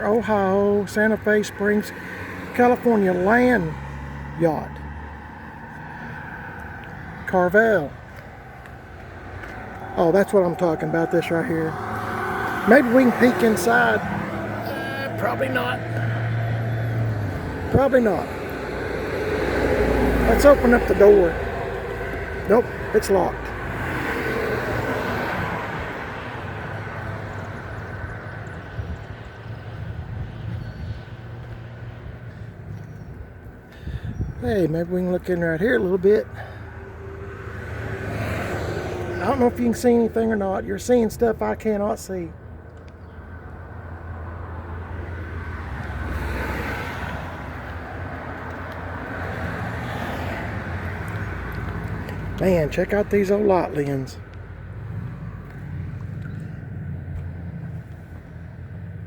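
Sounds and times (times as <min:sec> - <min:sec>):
low rumble of traffic: 0:00.0 - 0:59.0
vehicle passing: 0:00.3 - 0:41.3, 0:43.3 - 0:59.0.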